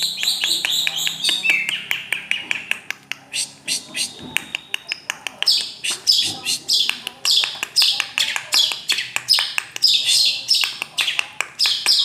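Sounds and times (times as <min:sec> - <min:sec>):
shrike chattering song: 0:00.0 - 0:12.0.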